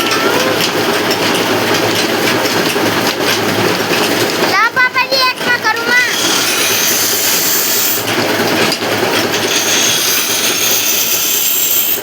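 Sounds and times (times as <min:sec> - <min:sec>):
metalworking machine running: 0:00.0 - 0:12.0.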